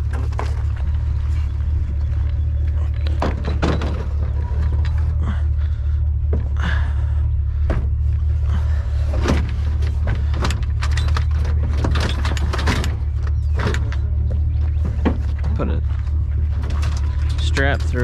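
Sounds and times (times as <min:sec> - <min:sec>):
sharp clicks and rattles: 0:00.0 - 0:06.6, 0:07.6 - 0:18.0
truck engine drone: 0:00.0 - 0:18.0.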